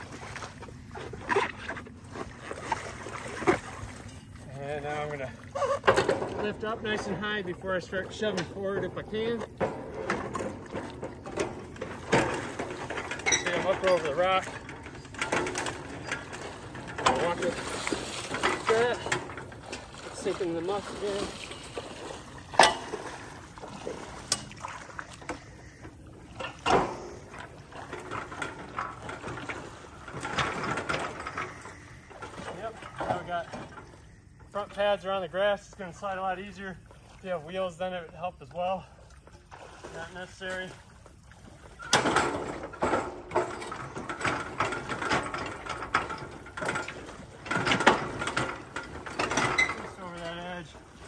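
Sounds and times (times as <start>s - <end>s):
water sloshing and splashing: 0.0s - 51.0s
metal frame creaking and grinding: 3.3s - 36.8s, 40.0s - 51.0s.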